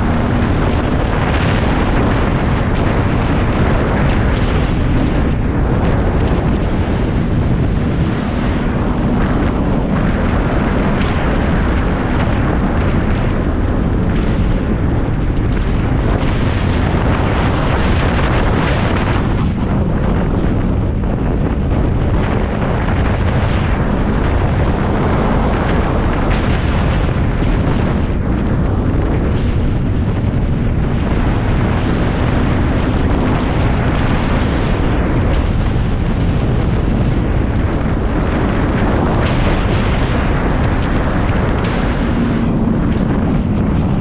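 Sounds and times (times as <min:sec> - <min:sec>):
snowmobile engine drone: 0:00.0 - 0:44.0
wind buffeting microphone: 0:00.0 - 0:44.0.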